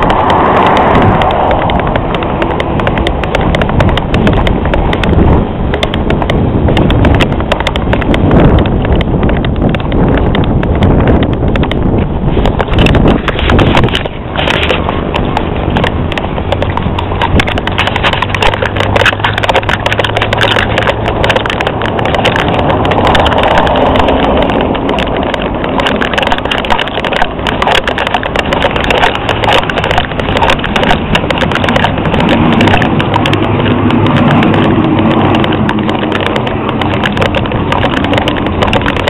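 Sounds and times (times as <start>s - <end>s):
camera handling rumble: 0.0s - 39.0s.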